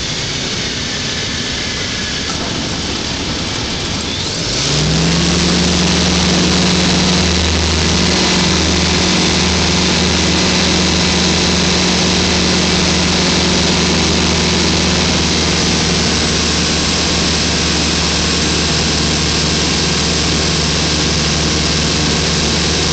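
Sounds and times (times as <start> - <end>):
light aircraft engine droning: 0.0 - 22.9
rushing noise: 0.0 - 22.9.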